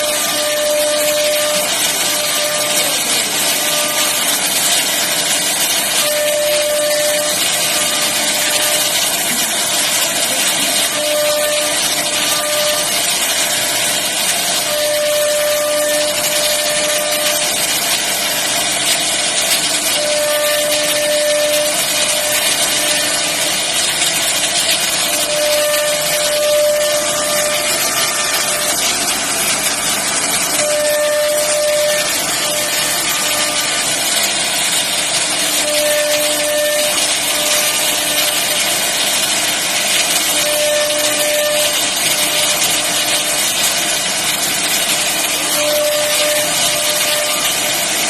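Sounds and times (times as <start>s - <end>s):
machine humming tone: 0.0s - 48.0s
router spindle hissing: 0.0s - 48.0s.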